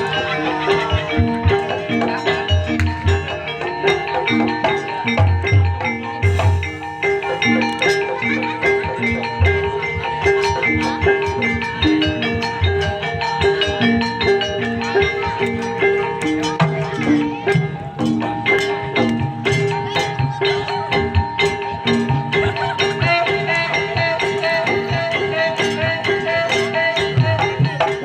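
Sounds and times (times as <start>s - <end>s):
metallophones ringing notes: 0.0s - 28.0s.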